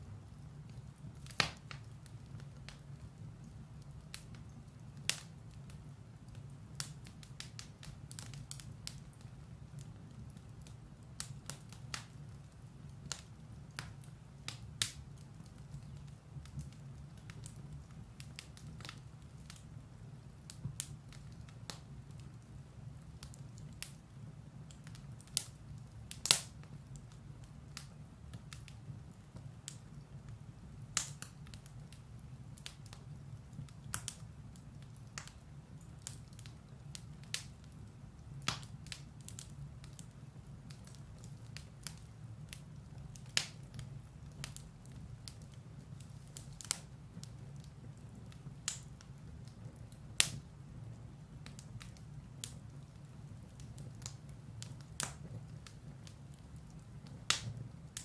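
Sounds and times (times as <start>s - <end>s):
firewood crackling and popping: 0.0s - 58.0s
low rumble of fire: 0.0s - 58.0s.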